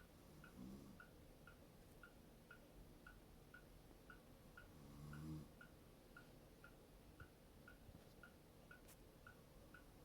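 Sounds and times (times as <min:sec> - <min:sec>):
clock ticking: 0:00.0 - 0:10.0.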